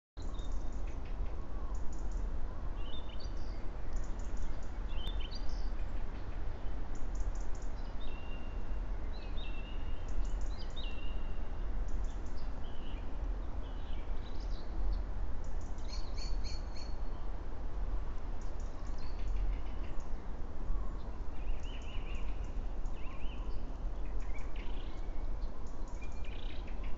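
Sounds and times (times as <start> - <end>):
songbirds chirping and trilling: 0.2 - 26.9.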